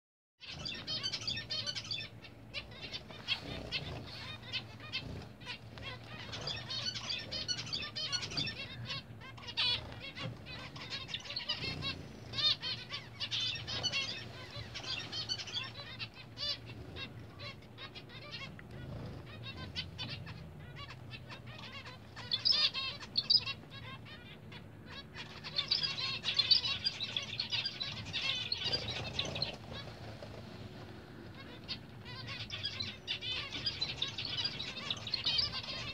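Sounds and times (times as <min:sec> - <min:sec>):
finches chirping: 0:00.4 - 0:35.9.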